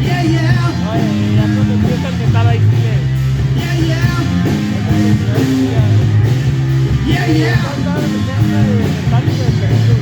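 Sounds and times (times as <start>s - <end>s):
bass line: 0.0s - 10.0s
drum kit: 0.0s - 10.0s
electric guitar: 0.0s - 10.0s.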